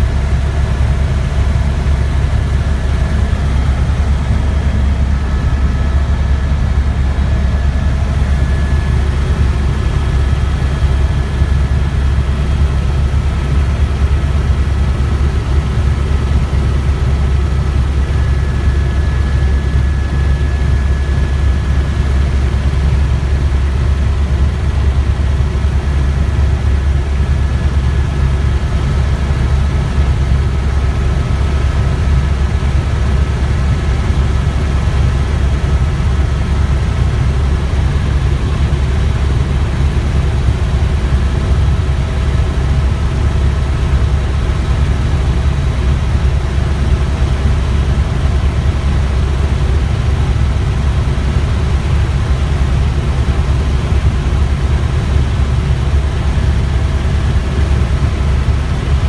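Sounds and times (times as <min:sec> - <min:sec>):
helicopter rotor and engine rumble: 0:00.0 - 0:59.0.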